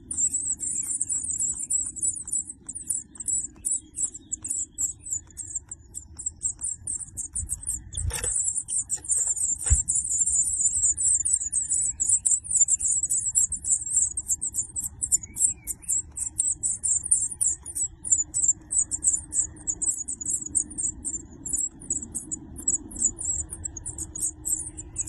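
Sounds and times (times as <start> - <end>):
nestlings cheeping: 0.0 - 25.0.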